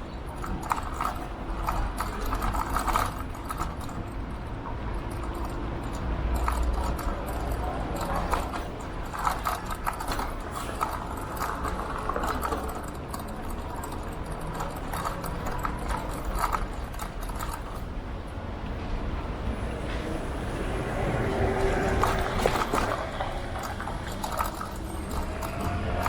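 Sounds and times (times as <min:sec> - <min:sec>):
scooter rattling over road: 0:00.0 - 0:18.0, 0:20.7 - 0:26.0.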